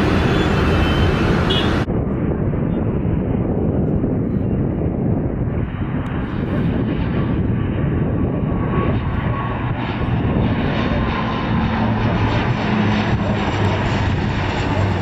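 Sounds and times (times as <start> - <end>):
turboprop engines running: 0.0 - 15.0.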